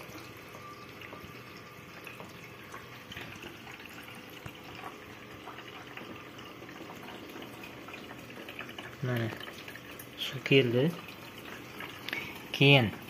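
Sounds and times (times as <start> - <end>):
water filling washing machine tub: 0.0 - 13.0.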